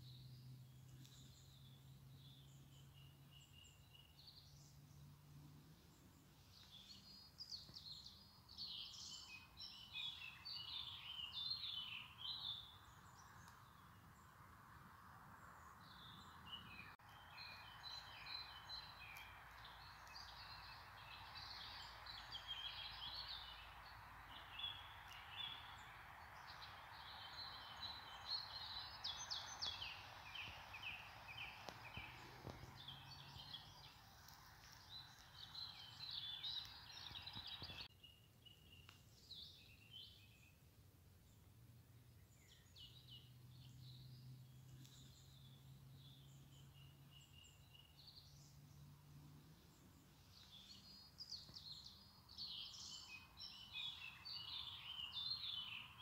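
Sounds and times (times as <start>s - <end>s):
birds chirping: 0.0s - 40.6s, 42.1s - 56.0s
soft steady hiss: 0.0s - 56.0s.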